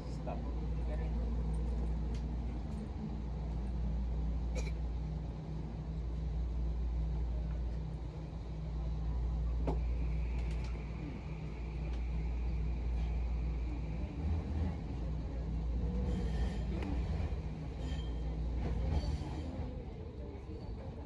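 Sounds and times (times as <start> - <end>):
train rumbling along a track: 0.0 - 21.0.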